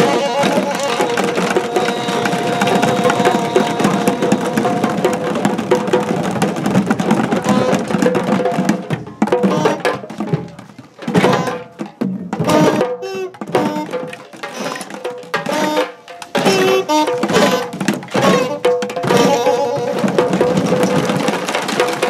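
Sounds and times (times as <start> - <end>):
children drumming fast rhythm: 0.0 - 22.0.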